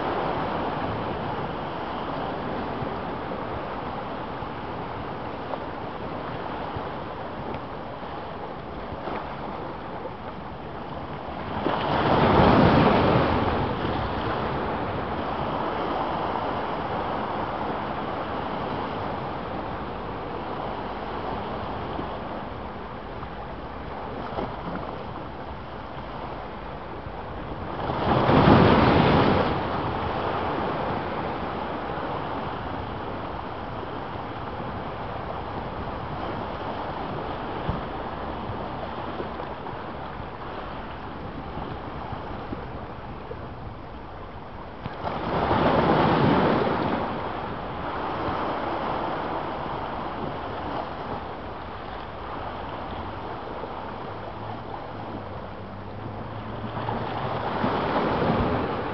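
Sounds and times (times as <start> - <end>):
big waves crashing: 0.0 - 58.9
waves washing against seawall: 0.0 - 58.9.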